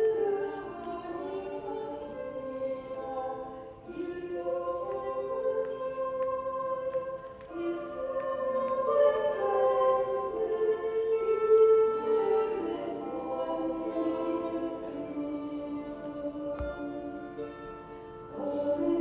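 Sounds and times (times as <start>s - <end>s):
choral singing: 0.0s - 19.0s.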